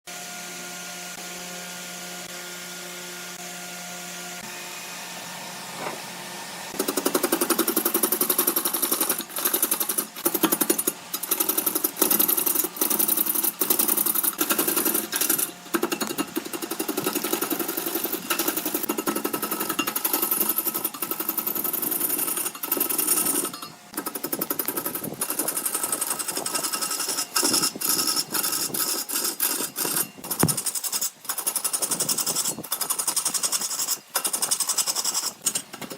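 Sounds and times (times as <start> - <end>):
turning tool scraping spinning wood: 6.7 - 35.9
wood lathe humming: 6.7 - 35.9.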